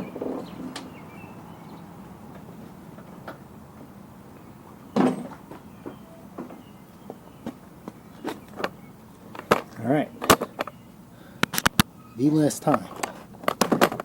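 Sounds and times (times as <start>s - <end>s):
faint steady hum: 0.0s - 13.7s.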